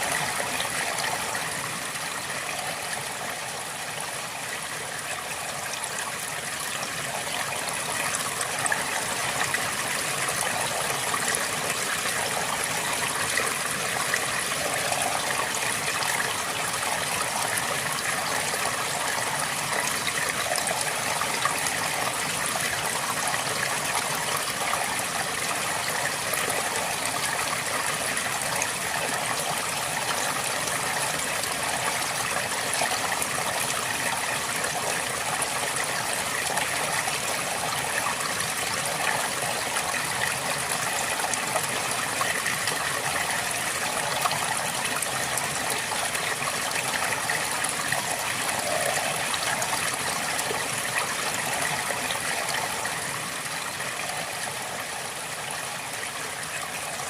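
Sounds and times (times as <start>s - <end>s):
river flowing over rocks: 0.0s - 57.0s.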